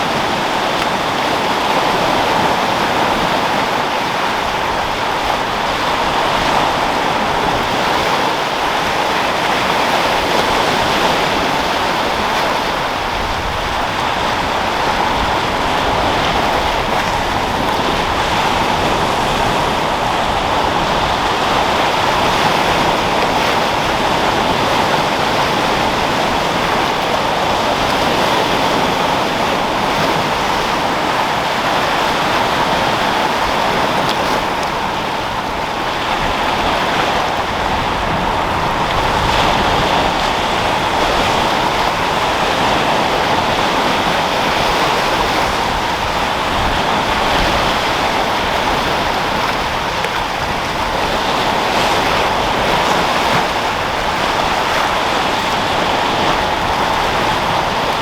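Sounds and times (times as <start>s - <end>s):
sea waves breaking against rocks: 0.0s - 58.0s
wind: 0.0s - 58.0s.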